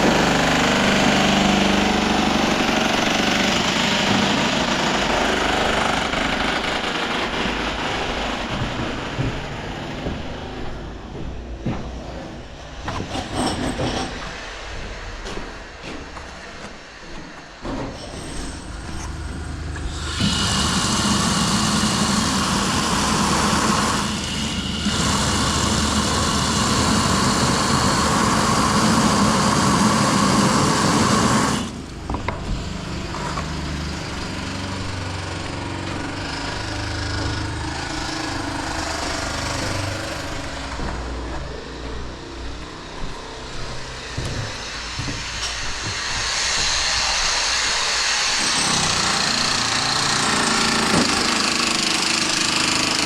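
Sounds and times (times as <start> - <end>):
loud steady machine noise: 0.0 - 11.8, 17.9 - 53.0
uneven machine noise: 0.0 - 53.0.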